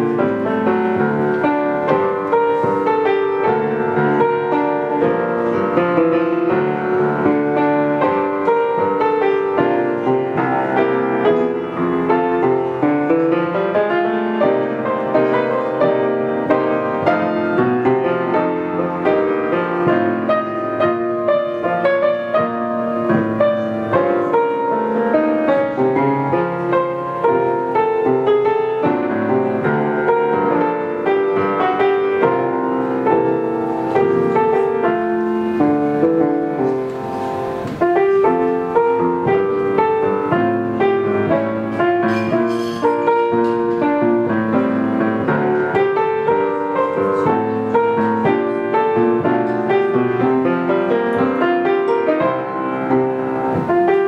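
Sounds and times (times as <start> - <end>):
solo piano playing romantic piece: 0.0 - 54.0.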